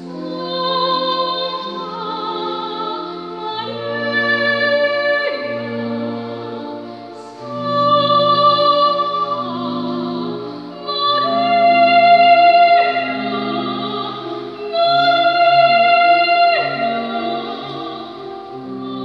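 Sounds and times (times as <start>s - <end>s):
church organ chords: 0.0s - 19.0s
woman singing with vibrato: 0.0s - 19.0s.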